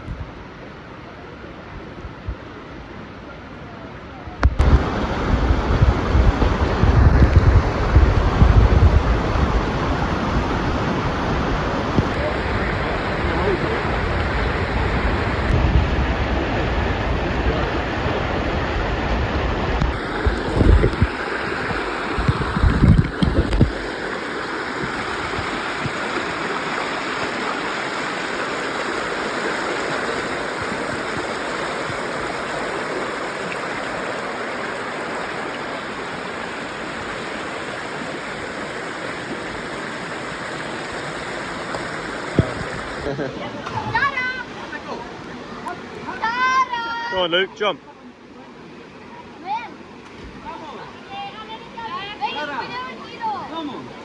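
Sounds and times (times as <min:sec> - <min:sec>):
waterfall and stream rushing: 0:00.1 - 0:54.0.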